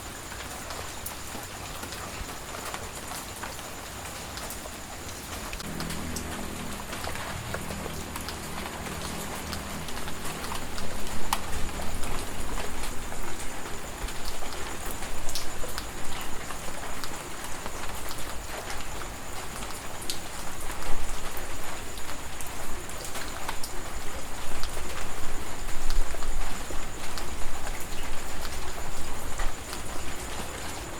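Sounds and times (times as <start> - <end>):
heavy rain: 0.0 - 30.9
raindrops ticking on hard surface: 0.0 - 30.9.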